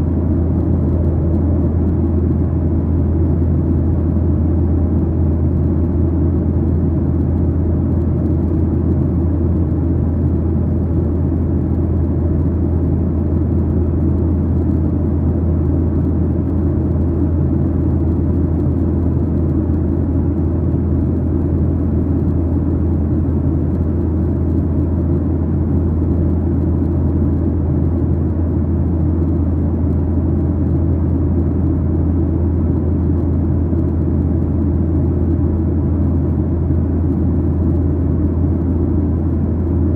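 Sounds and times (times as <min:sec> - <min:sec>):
jet engine drone in cabin: 0:00.0 - 0:39.9
low hum: 0:00.0 - 0:39.9.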